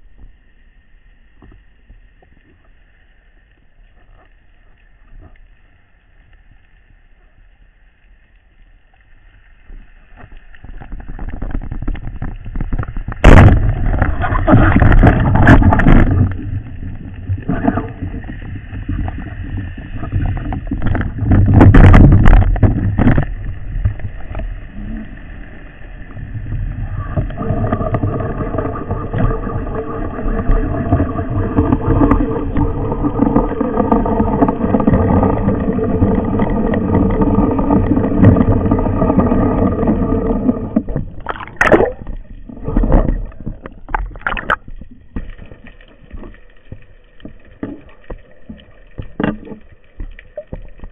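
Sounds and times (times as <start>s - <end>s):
underwater rushing water: 0.0s - 50.9s.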